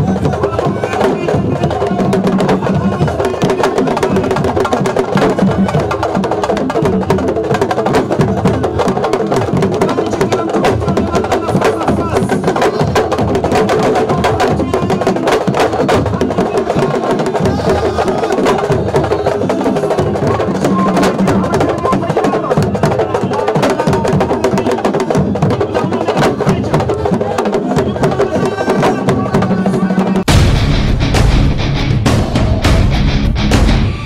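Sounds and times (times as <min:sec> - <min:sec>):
voices singing or chanting: 0:00.0 - 0:30.4
rapid hand-drumming: 0:00.0 - 0:34.0.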